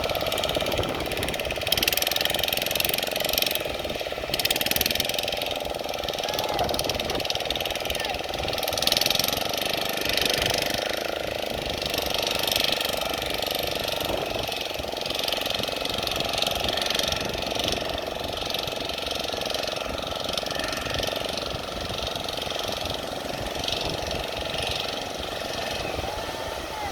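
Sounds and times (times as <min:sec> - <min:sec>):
engine with mechanical clatter: 0:00.0 - 0:26.9.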